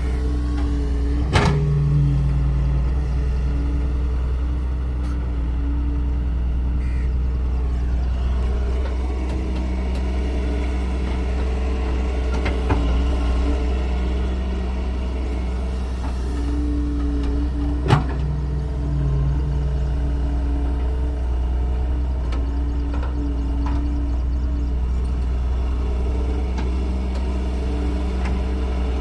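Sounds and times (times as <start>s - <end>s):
excavator diesel engine: 0.0s - 29.0s.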